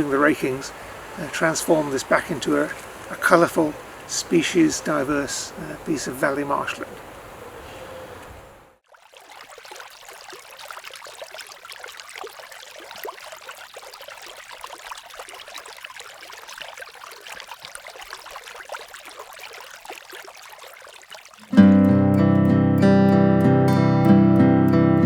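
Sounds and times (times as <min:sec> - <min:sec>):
stream water trickling and babbling: 0:00.0 - 0:22.6.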